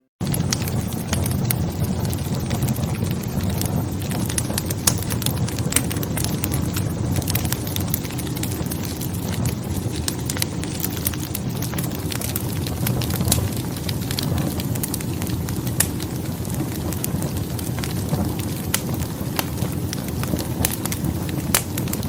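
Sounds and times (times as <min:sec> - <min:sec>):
crackles and pops of burning logs: 0:00.2 - 0:22.0
low rumble of flames: 0:00.2 - 0:22.0.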